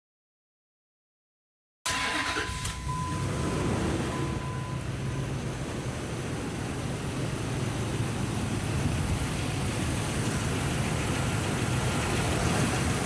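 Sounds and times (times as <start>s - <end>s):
truck engine idling: 2.0s - 13.0s.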